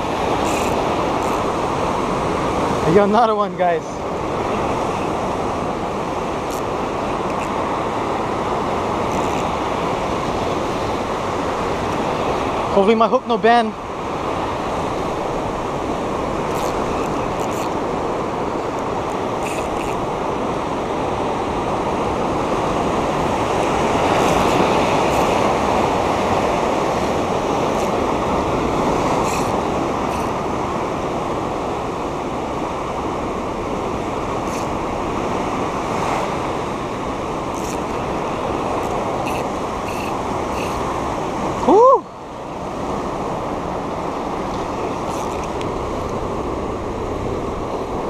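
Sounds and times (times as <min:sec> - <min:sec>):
ocean surf breaking on rocks: 0:00.0 - 0:48.0.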